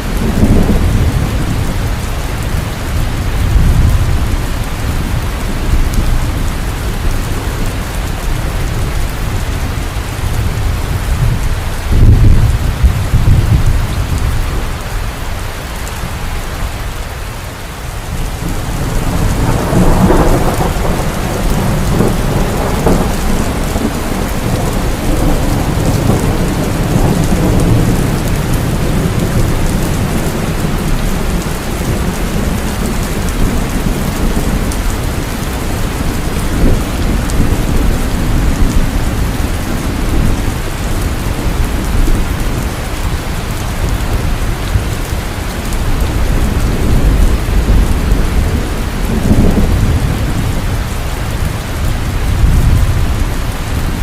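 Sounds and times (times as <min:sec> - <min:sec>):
low thunder rumbling: 0:00.0 - 0:17.0, 0:17.7 - 0:54.0
heavy rain: 0:00.0 - 0:54.0.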